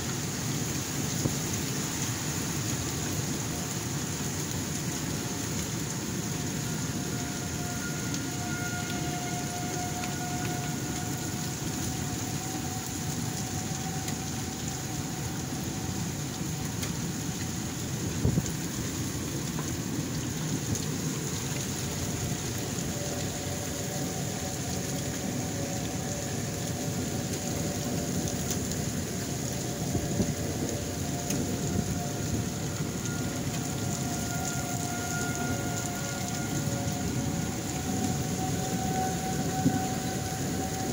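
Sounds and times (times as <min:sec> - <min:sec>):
heavy rain: 0:00.0 - 0:40.9
strong wind: 0:00.2 - 0:40.9.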